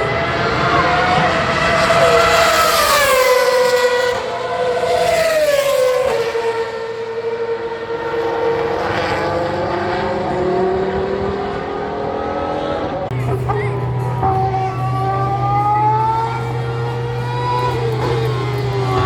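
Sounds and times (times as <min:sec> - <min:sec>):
race car engine at high revs: 0:00.0 - 0:19.0.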